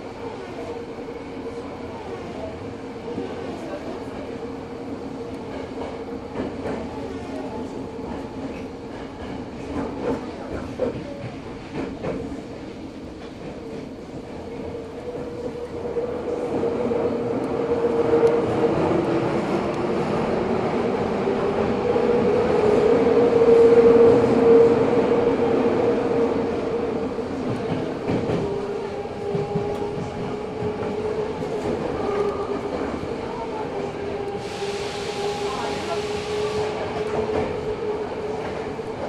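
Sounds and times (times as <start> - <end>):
subway train running noise: 0.0 - 39.0.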